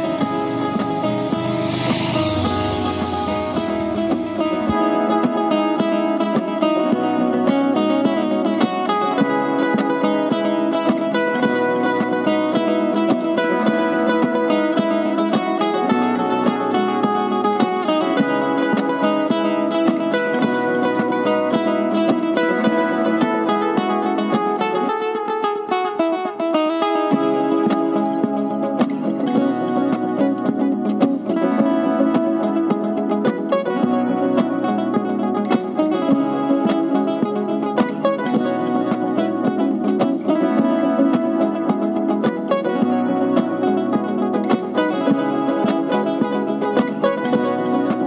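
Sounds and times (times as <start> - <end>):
plucked string instrumental music: 0.0 - 48.0.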